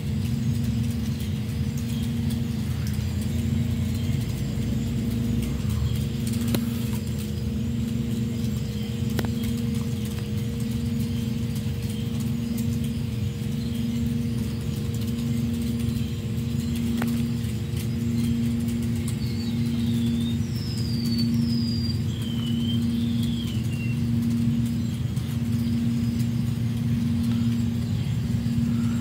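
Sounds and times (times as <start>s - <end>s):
low rumble: 0.0s - 29.0s
water pump humming: 0.0s - 29.0s
bird chirps: 0.6s - 29.0s.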